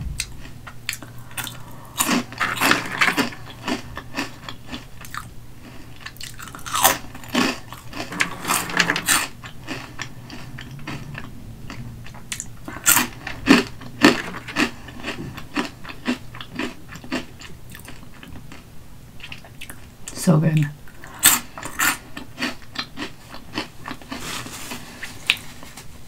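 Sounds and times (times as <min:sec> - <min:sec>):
crunchy snacks being chewed: 0:00.2 - 0:20.0, 0:20.9 - 0:25.6.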